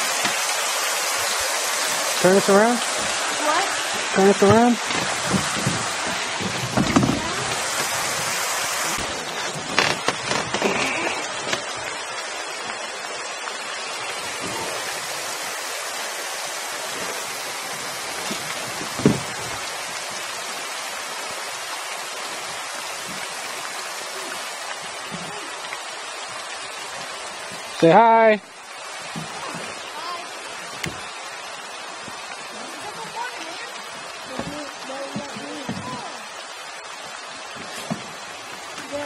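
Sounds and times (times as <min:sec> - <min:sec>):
falling water hissing: 0:00.0 - 0:39.0.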